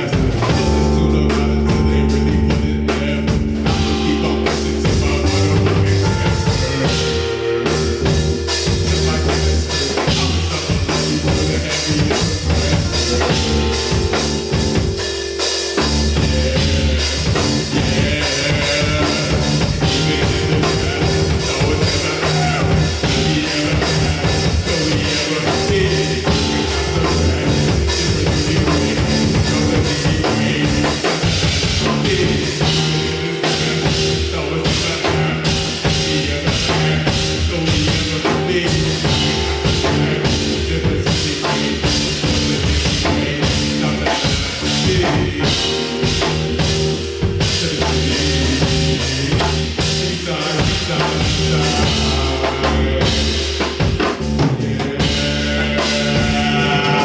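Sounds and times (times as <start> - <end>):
bass: 0.0 - 57.0
drum kit: 0.0 - 57.0
guitar: 0.0 - 57.0.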